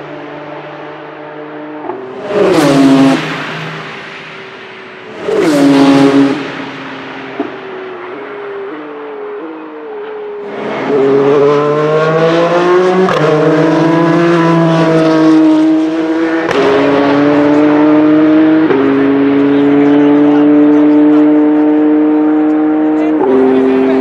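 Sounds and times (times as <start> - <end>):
race car engine accelerating: 0.0 - 24.0.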